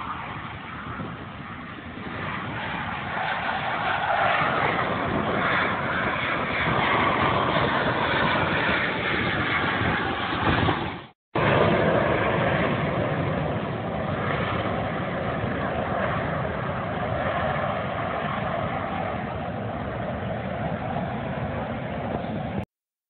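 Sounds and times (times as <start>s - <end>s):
jet engine rushing: 0.0s - 22.7s.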